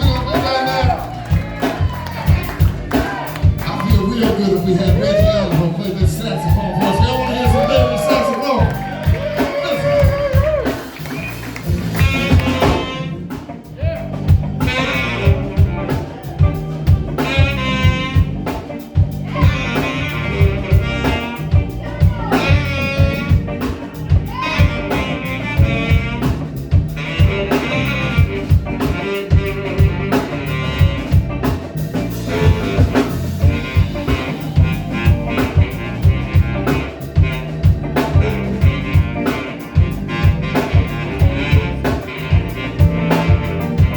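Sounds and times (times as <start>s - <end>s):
bass: 0.0s - 43.9s
drum kit: 0.0s - 43.9s
saxophone melody: 0.0s - 43.9s.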